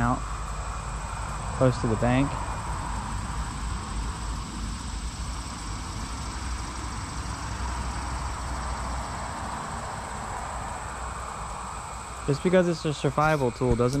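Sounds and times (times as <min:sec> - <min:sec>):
high-pitched insect drone: 0:00.0 - 0:14.0
rushing hiss: 0:00.0 - 0:14.0.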